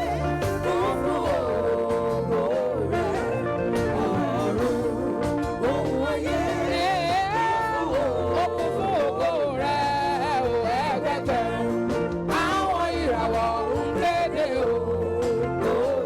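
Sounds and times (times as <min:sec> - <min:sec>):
live gospel band music: 0:00.0 - 0:16.0.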